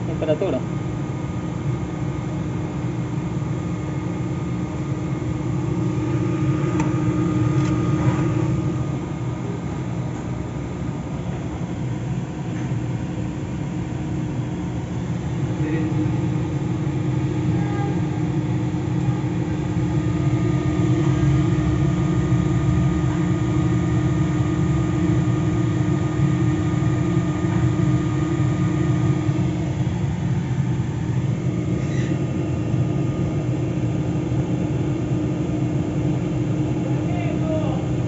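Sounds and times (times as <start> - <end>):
machinery hum with low rumble: 0.0 - 38.0.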